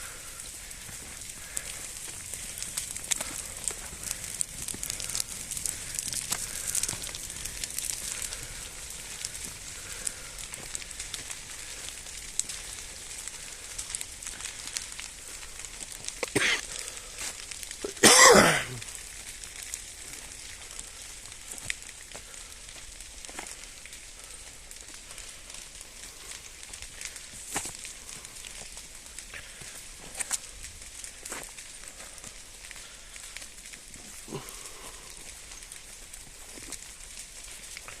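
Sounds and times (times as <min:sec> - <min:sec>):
fire crackling and popping: 0:00.0 - 0:38.0.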